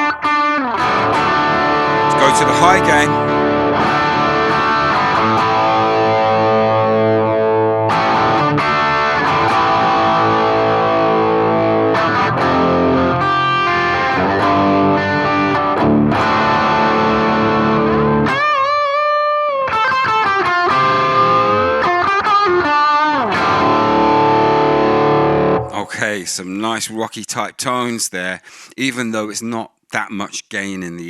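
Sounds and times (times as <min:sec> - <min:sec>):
distorted electric guitar: 0:00.0 - 0:25.9.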